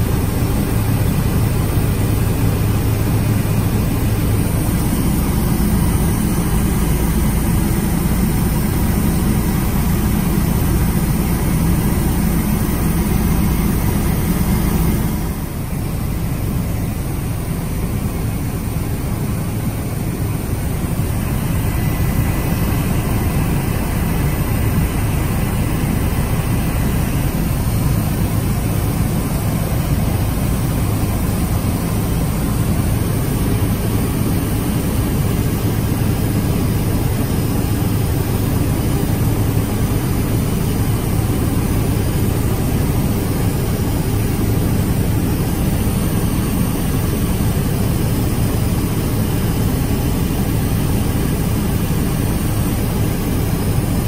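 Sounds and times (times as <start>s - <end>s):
helicopter cabin drone: 0.0s - 54.0s.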